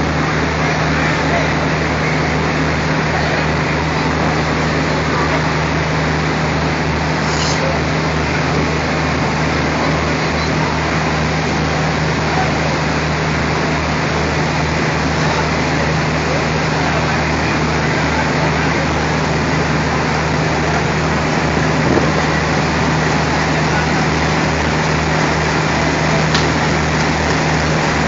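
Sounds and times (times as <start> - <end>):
locomotive engine humming: 0.0 - 28.0
rushing noise of rolling train: 0.0 - 28.0.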